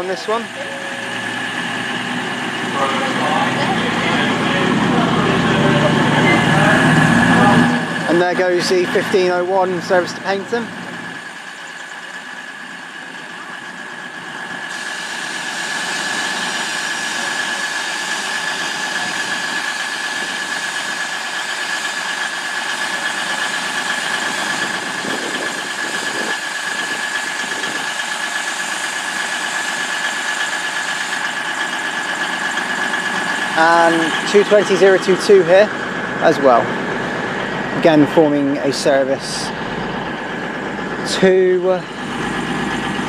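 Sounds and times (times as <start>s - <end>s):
constant high whine: 0.0s - 43.0s
train diesel engines running: 0.0s - 43.0s.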